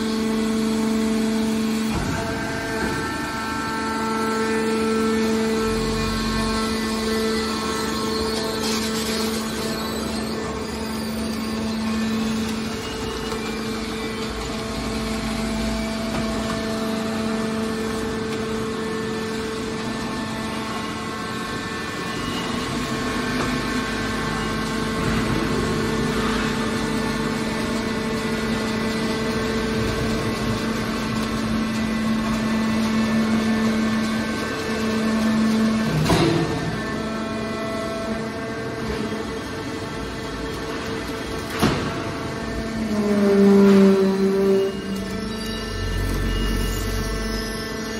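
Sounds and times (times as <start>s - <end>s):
hydraulic machine hum: 0.0s - 47.9s.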